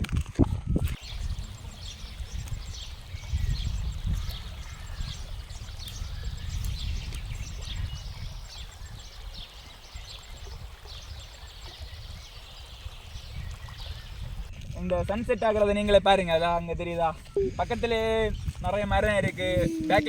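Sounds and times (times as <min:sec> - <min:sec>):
wind buffeting microphone: 0:00.0 - 0:20.0
small birds chirping: 0:00.8 - 0:20.0.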